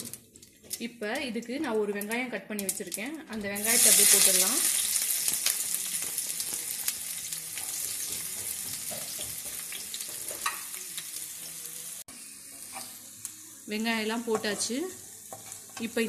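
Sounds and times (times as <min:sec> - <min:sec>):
onion sizzling in hot oil: 0:01.9 - 0:16.0.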